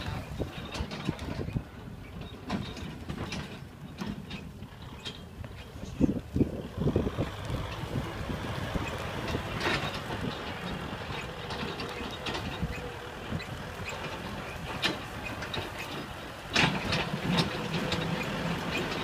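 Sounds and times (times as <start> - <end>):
sharp clanks and rattles: 0.0 - 19.0
tractor engine running: 0.0 - 19.0.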